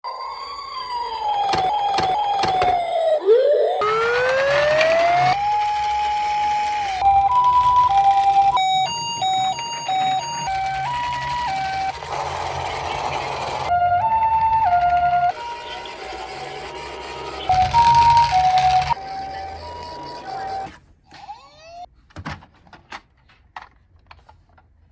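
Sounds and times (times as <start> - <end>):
siren wailing: 0.0 - 21.9
two-tone ambulance siren: 0.0 - 21.9.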